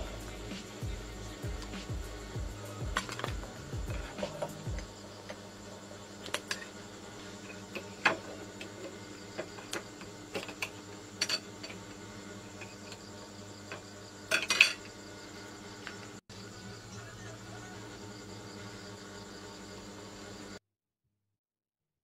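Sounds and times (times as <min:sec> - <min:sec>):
faint steady hum: 0:00.0 - 0:20.6.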